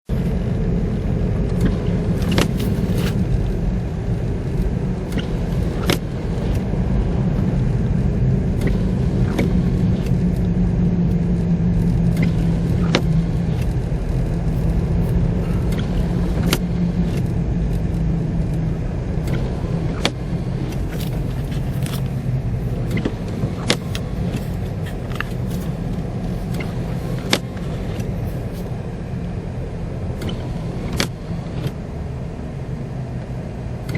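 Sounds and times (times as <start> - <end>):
car engine and road rumble: 0.1 - 33.9.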